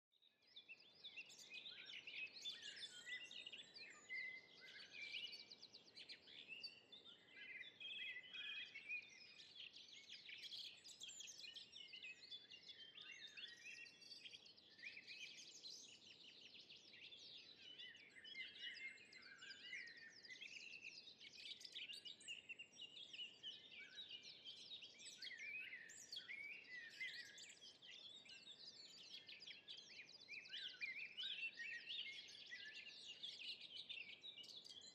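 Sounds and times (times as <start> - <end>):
songbirds chirping: 0.2 - 34.9.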